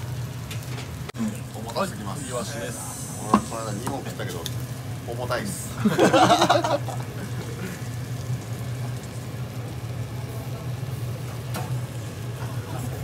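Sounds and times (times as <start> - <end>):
restaurant low hum: 0.0 - 13.0.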